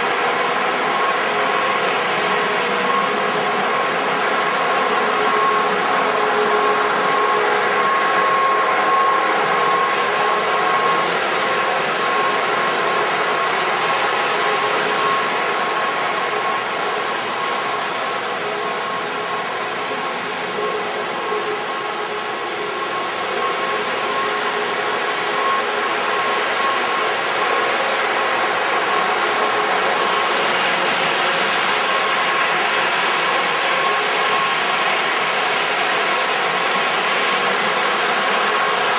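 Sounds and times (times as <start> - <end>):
high whine: 0.0 - 38.9.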